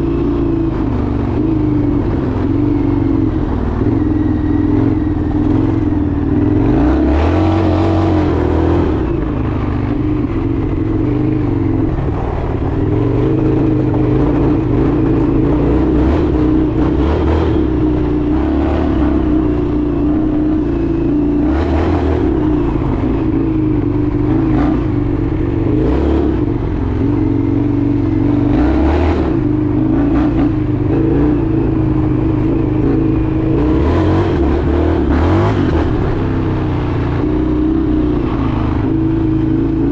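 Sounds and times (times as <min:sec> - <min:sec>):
motorcycle engine running: 0:00.0 - 0:39.9
rushes of noise: 0:00.0 - 0:39.9.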